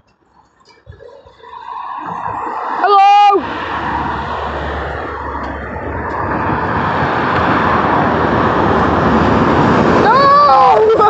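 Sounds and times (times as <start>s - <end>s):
train wheels rushing on rails: 1.0s - 11.0s.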